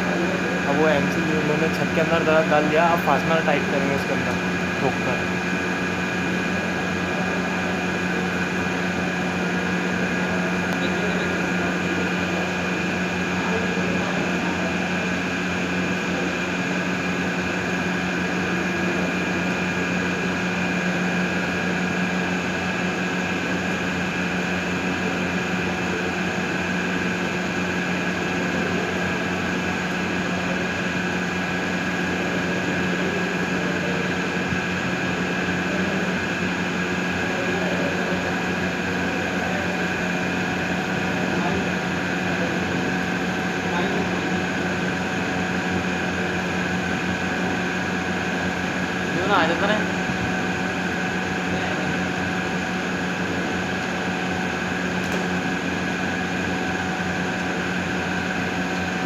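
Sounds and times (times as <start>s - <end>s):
mechanical hum with whines: 0.0s - 59.0s.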